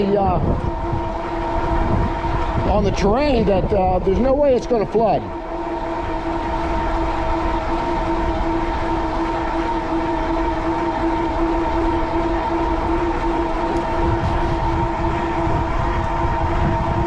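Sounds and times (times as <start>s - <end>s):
electric hub motor whine: 0.0s - 17.0s
wind rumble on microphone: 0.0s - 17.0s.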